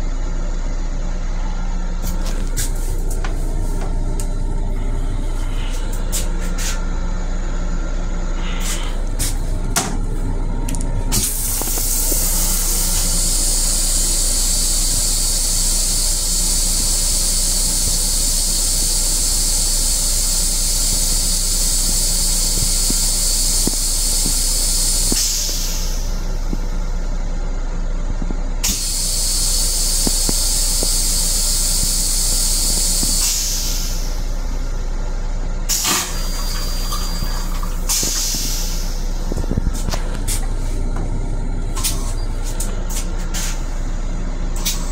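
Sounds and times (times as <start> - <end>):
railcar low hum: 0.0 - 44.9.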